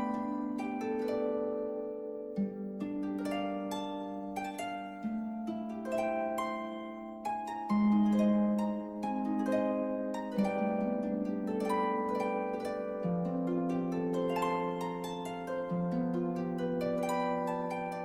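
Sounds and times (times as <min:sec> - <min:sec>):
plucked harp-like melody: 0:00.0 - 0:18.0.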